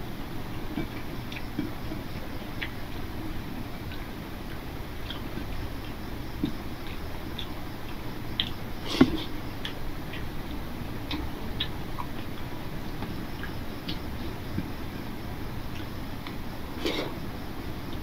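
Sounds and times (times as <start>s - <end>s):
steady low hum: 0.0s - 18.0s
fingers mixing rice wet squelches: 0.4s - 18.0s.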